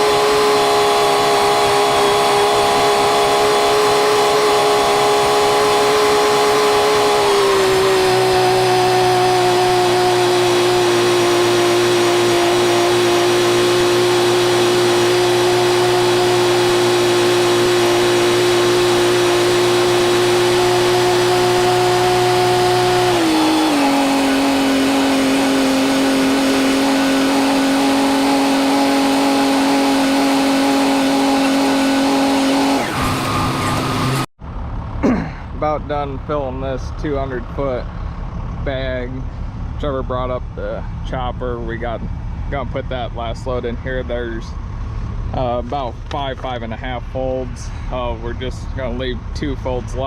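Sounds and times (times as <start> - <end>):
tractor engine droning: 0.0 - 50.0.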